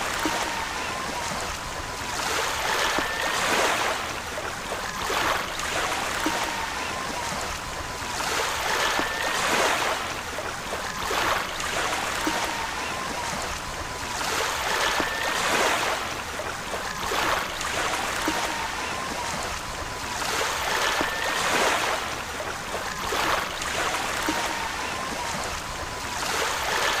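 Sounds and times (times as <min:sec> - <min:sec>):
waves breaking: 0:00.0 - 0:27.0.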